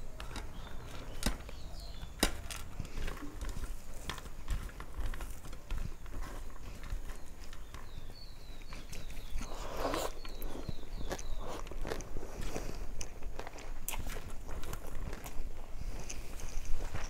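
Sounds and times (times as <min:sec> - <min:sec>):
rice squishing by hand: 0:00.0 - 0:15.7.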